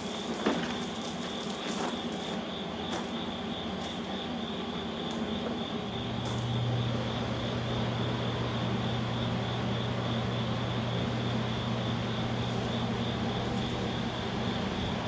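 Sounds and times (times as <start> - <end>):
blower hum: 0.0 - 15.0
gas flare burner rushing: 0.0 - 15.0.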